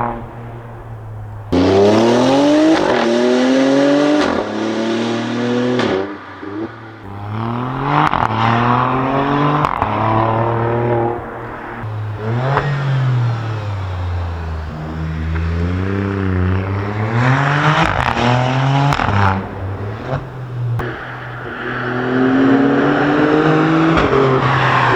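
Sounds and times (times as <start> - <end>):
car engine revving and accelerating: 0.0 - 24.9.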